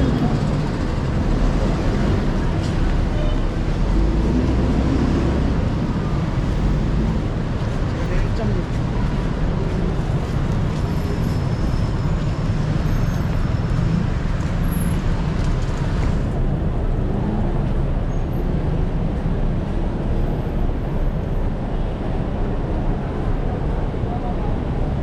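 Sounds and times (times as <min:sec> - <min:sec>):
vehicle low rumble: 0:00.0 - 0:25.0.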